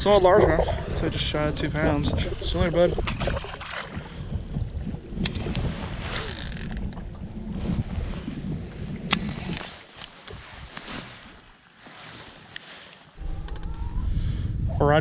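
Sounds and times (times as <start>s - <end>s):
wind buffeting microphone: 0.0s - 10.8s, 13.2s - 15.0s.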